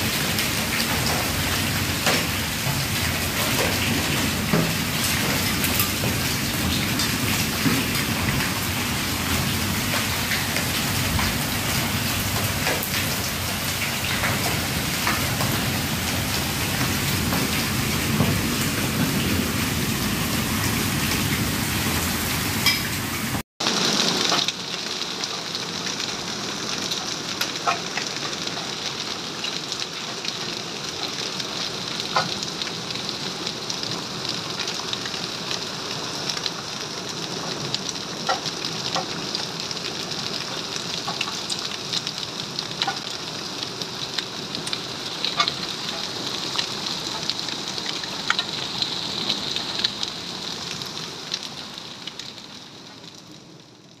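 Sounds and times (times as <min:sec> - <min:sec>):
hailstones ticking: 0:00.0 - 0:19.9, 0:23.7 - 0:54.0
heavy rain hissing: 0:00.0 - 0:27.4, 0:28.1 - 0:53.8.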